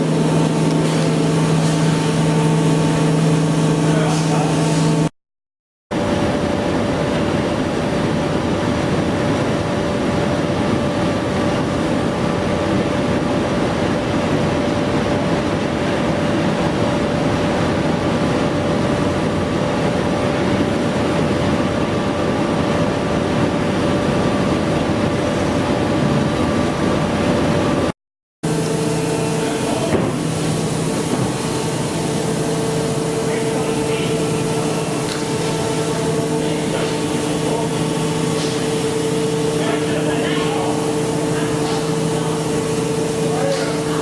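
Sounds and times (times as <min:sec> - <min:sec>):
industrial machinery whining: 0:00.0 - 0:05.1, 0:06.0 - 0:44.0.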